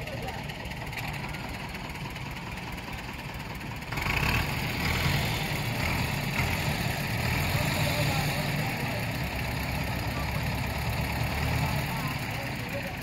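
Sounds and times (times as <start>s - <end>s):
sawmill engine drone: 0.0s - 13.0s.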